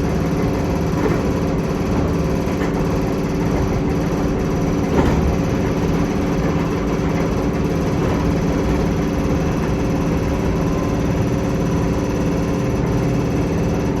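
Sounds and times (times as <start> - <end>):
electric train hum: 0.0 - 14.0
train wheels rumbling on rail: 0.0 - 14.0.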